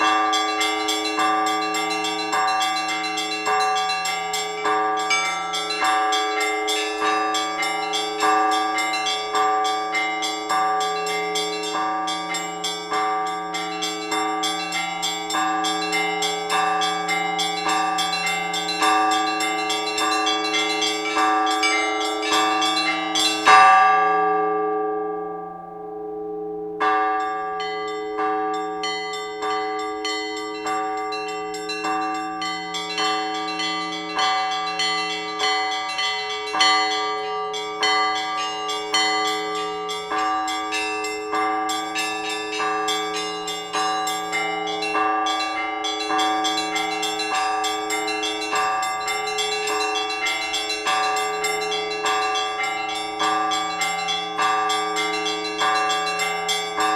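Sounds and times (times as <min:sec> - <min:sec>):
church bells ringing: 0:00.0 - 0:56.9
large bell humming: 0:00.0 - 0:56.9.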